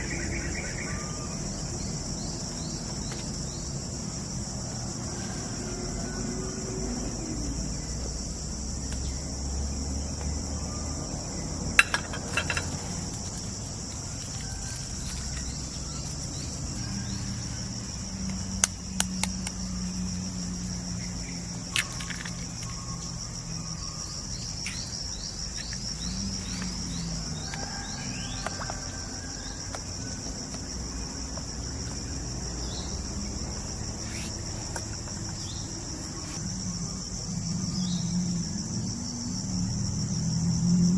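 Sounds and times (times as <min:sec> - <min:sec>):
insects buzzing: 0:00.0 - 0:40.9.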